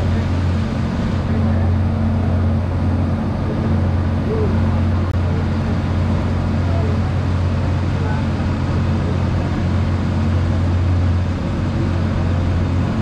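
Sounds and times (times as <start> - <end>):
boat engines droning: 0.0 - 13.0
constant rushing noise: 0.0 - 13.0.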